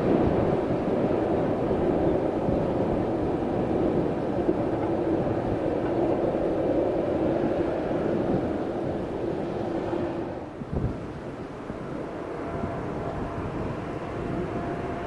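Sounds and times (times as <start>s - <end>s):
train rumble and hum: 0.0s - 15.0s
wind on microphone: 0.0s - 15.0s.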